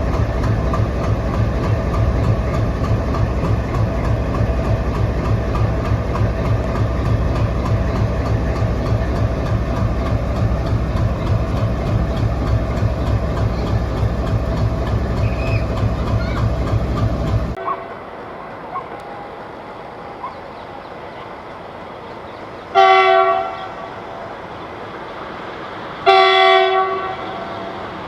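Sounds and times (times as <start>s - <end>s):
diesel locomotive engine throbbing: 0.0s - 28.0s.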